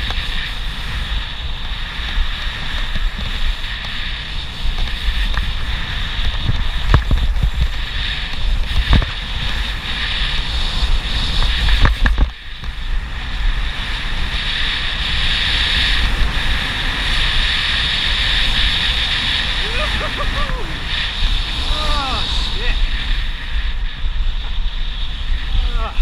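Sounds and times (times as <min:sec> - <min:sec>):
sliding on snow hiss: 0:00.0 - 0:26.0
wind buffeting microphone: 0:00.0 - 0:26.0.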